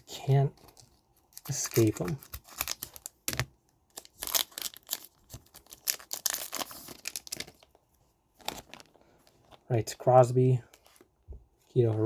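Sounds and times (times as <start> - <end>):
plastic wrapper crinkling and tearing: 0.0 - 9.7.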